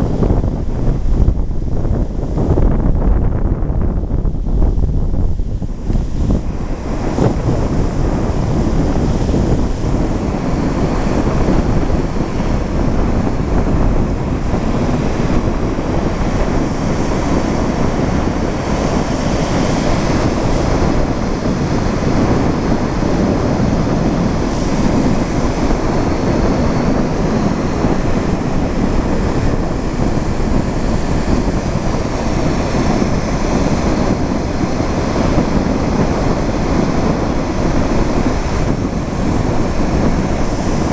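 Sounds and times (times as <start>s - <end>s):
wind on microphone: 0.0s - 40.9s
surf breaking on beach: 4.3s - 40.9s.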